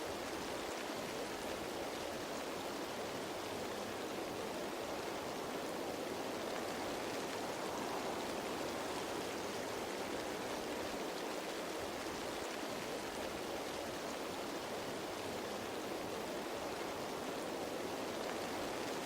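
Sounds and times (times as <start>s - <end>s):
rain pattering on leaves: 0.0s - 19.0s.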